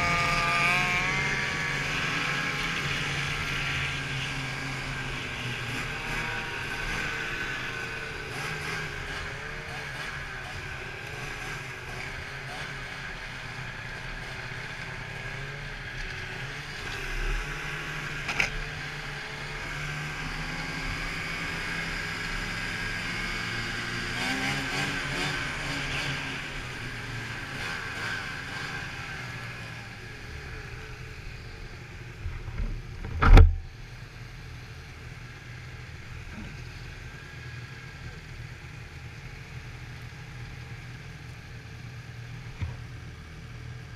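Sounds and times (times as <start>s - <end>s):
snowmobile engines running: 0.0s - 43.9s.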